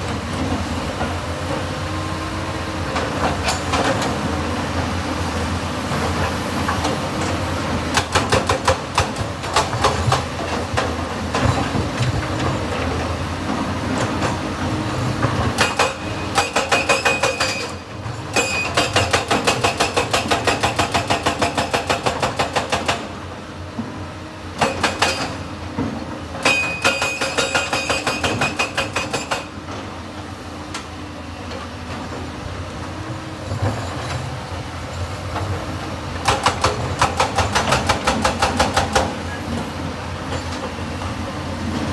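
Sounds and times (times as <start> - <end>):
excavator metallic clanking: 0.0 - 5.1, 5.9 - 23.3, 24.6 - 41.9.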